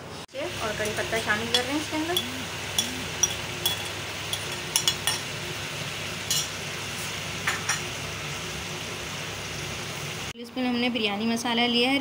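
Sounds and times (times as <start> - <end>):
chicken sizzling in a pot: 0.3 - 10.4.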